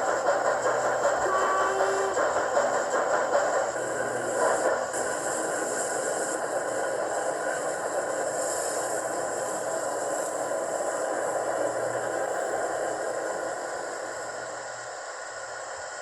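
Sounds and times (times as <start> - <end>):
model train running noise: 0.0 - 16.0.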